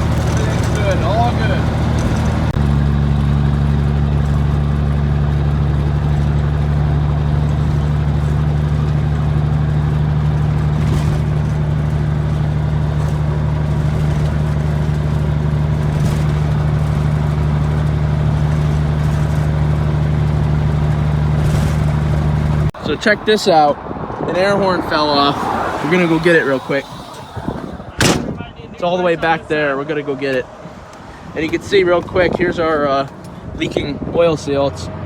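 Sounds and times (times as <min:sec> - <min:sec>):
truck diesel engine drone: 0:00.0 - 0:28.2.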